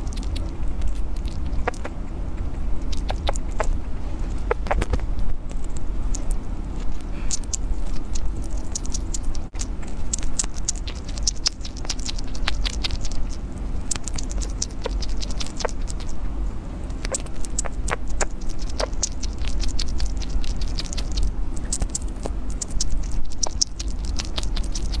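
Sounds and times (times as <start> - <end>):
low hum: 0.0 - 25.0
small animal gnawing a stick: 0.0 - 25.0.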